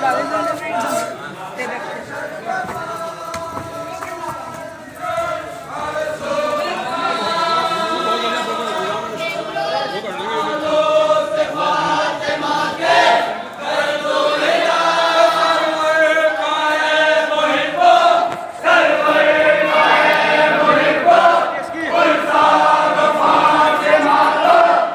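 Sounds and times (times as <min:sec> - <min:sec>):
men chanting a lament: 0:00.0 - 0:24.9.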